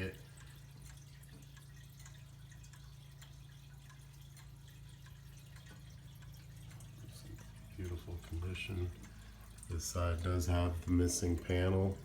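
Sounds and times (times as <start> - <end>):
low steady hum: 0.0 - 12.0
pendulum clock ticking faintly: 0.0 - 12.0.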